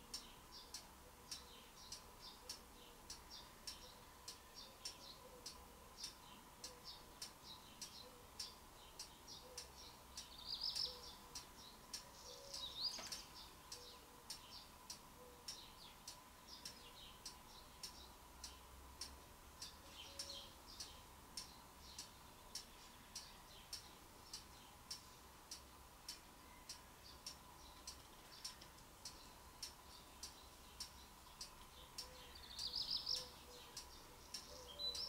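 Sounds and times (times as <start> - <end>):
birds chirping: 0.0 - 35.0
faint steady ticking: 0.0 - 35.0.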